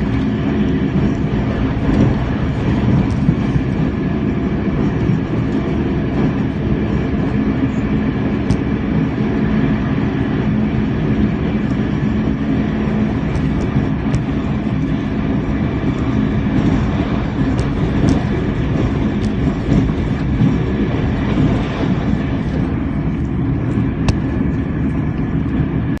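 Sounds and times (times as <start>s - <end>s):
train rail rumble: 0.0s - 26.0s.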